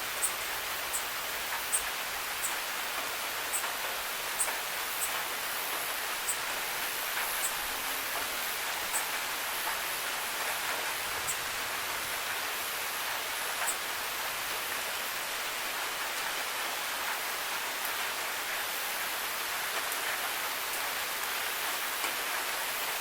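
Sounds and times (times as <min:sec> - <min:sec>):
rain hiss: 0:00.0 - 0:23.0.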